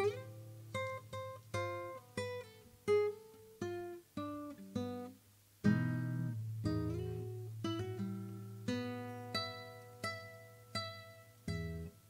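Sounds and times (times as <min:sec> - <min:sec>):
acoustic guitar plucked melody: 0:00.0 - 0:12.0.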